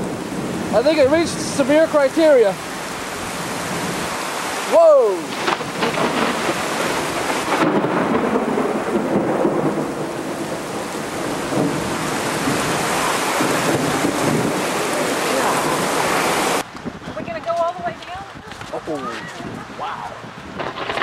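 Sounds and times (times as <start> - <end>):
thunder rumbling: 0.0 - 17.4, 20.2 - 21.0
heavy rain pouring: 0.0 - 21.0.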